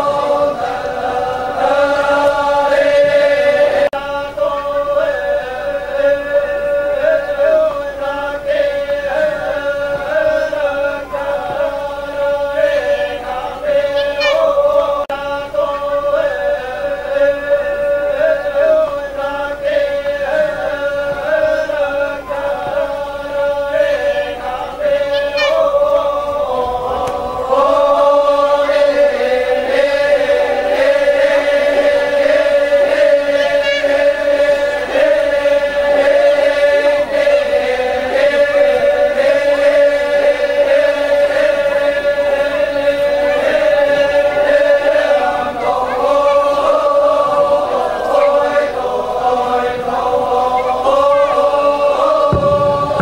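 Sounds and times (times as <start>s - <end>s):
group of voices chanting: 0.0s - 53.0s.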